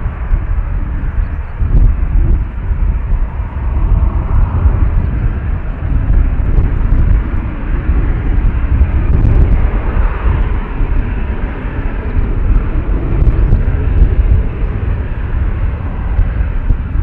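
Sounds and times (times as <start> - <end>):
distant jet engine hum: 0.0 - 17.0
wind on microphone: 0.0 - 17.0.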